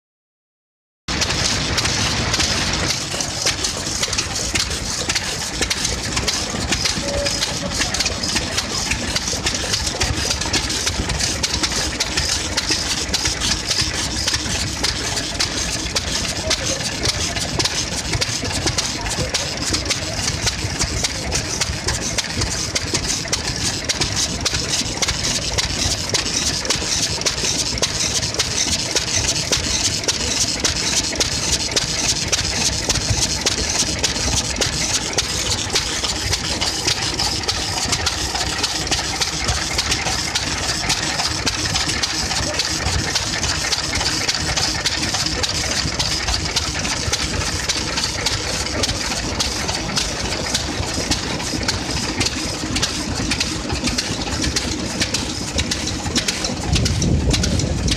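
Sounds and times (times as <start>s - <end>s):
stationary engines running: 1.1s - 57.9s.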